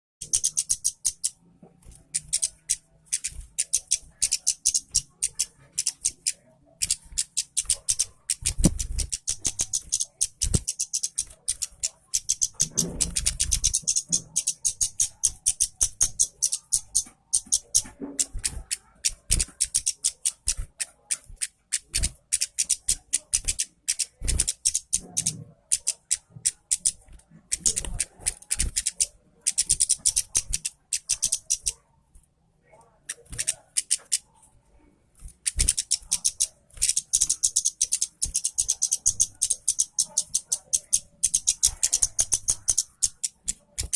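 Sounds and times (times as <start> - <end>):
songbird chattering song: 0.2 - 31.8, 35.4 - 43.9.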